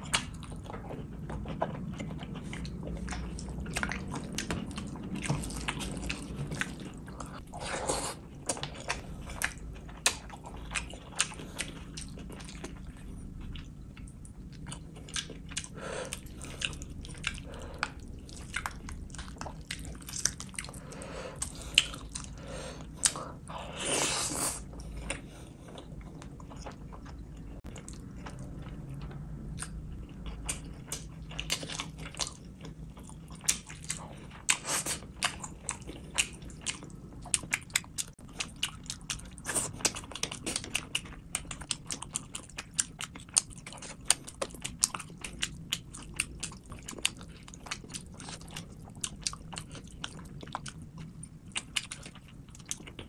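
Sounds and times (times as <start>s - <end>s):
person chewing: 0.0s - 53.0s.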